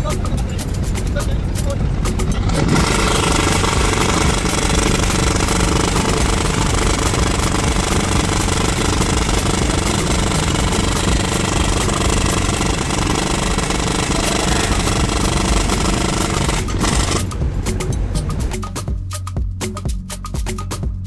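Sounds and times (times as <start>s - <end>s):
ship machinery rattling rumble: 0.0s - 18.8s
rhythmic background music: 0.0s - 21.0s.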